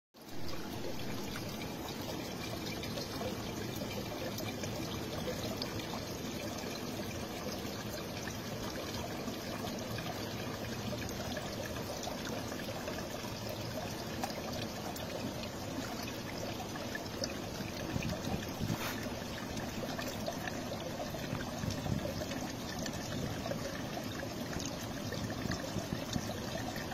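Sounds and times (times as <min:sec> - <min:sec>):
spring water trickling over rocks: 0:00.2 - 0:26.9.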